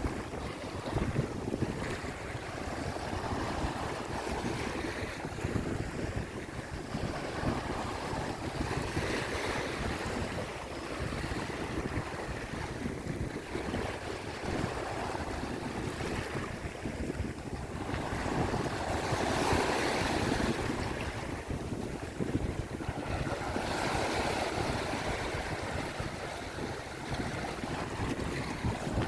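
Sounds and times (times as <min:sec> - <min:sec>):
sea waves washing: 0:00.0 - 0:29.0
wind buffeting microphone: 0:00.0 - 0:29.0.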